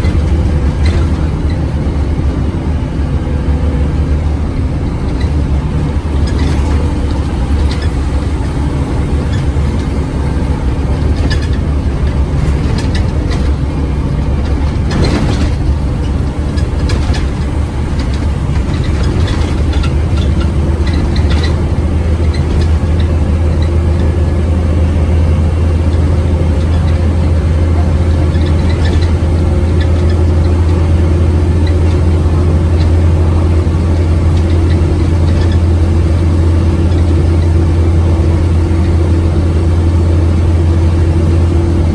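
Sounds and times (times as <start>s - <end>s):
bus engine droning: 0.0s - 41.9s
clatter and rattles: 0.0s - 41.9s.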